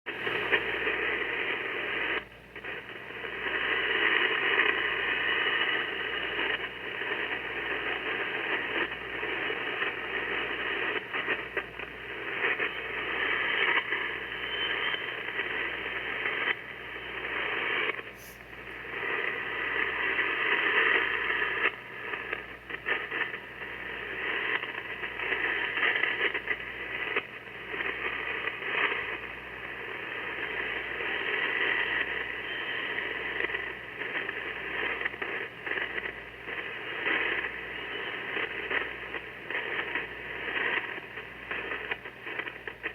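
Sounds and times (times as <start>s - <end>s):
radio receiver hiss and crackling: 0.1s - 42.9s.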